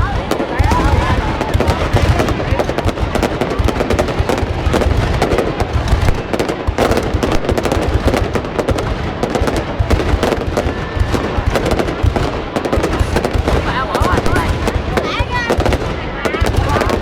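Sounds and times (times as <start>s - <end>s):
fireworks crackling and popping: 0.0s - 17.0s
low booms of fireworks: 0.0s - 17.0s.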